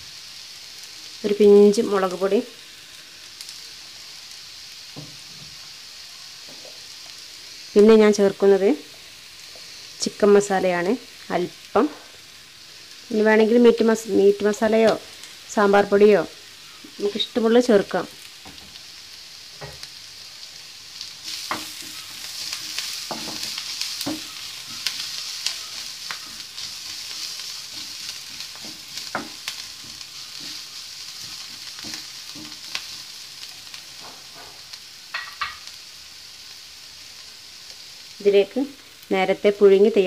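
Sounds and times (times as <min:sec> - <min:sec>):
onions sizzling in a frying pan: 0:00.0 - 0:40.0.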